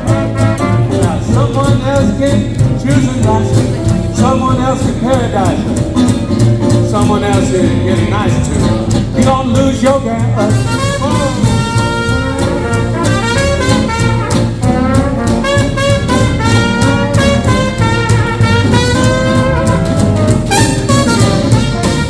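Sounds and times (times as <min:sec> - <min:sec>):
brass horns melody: 0:00.0 - 0:08.9, 0:10.0 - 0:22.0
swing band playing: 0:00.0 - 0:22.0.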